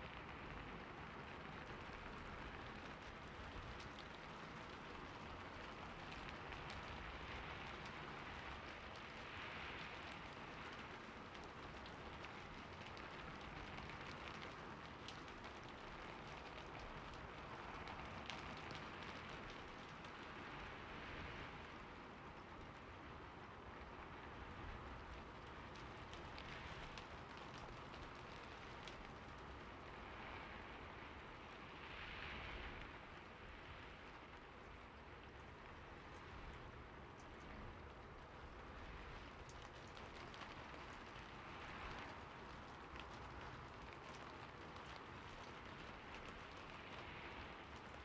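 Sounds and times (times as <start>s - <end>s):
raindrop ticks: 0.0s - 31.8s, 32.8s - 48.0s
rain falling on a roof: 0.0s - 48.0s.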